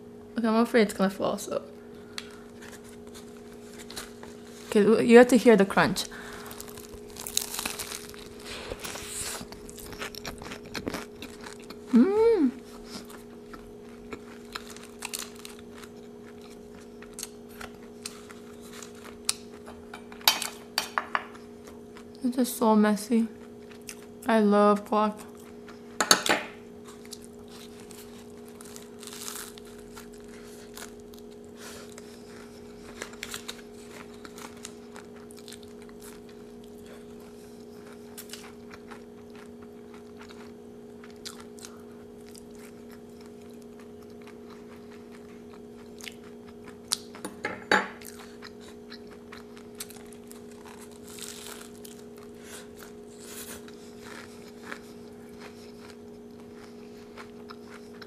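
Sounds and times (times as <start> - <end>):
faint steady hum: 0.0 - 58.0
chewing crunchy taco: 1.9 - 4.8, 6.0 - 22.3, 23.3 - 24.3, 25.1 - 58.0.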